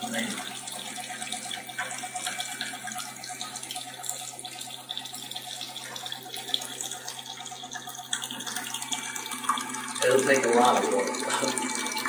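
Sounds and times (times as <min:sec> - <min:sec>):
water running and draining: 0:00.0 - 0:12.0.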